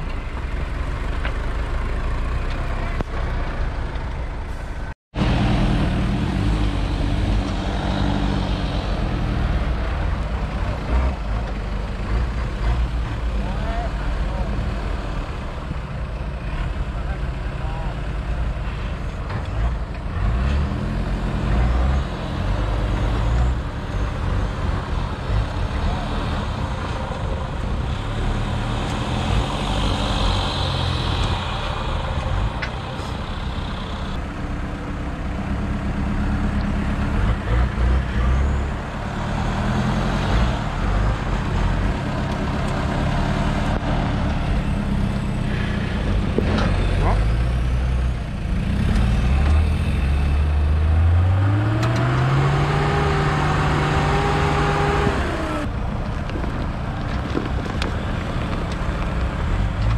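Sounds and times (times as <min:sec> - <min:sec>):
off-road engine revving: 0:05.2 - 0:59.9.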